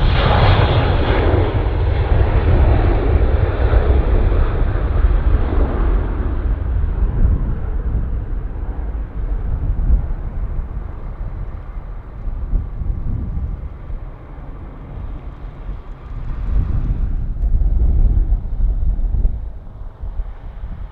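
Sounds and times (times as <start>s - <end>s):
jet engines rumbling: 0.0s - 20.9s
wind buffeting microphone: 0.0s - 20.9s.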